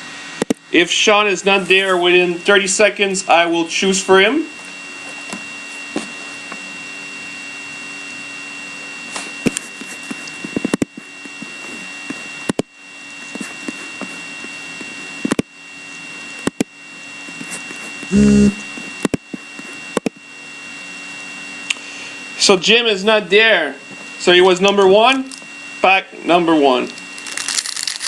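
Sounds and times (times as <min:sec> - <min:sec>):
electrical hum with whine: 0:00.0 - 0:28.0.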